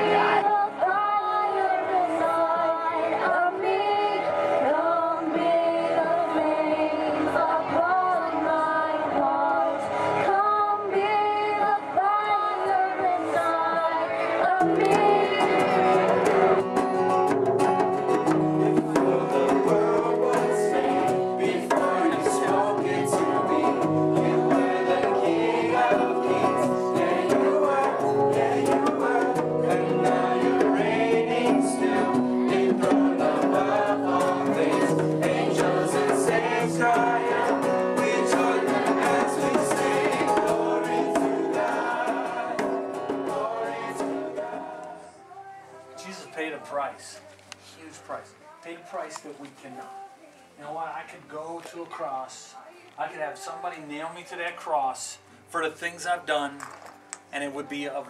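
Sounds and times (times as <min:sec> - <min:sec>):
song with singing and instruments: 0:00.0 - 0:58.0.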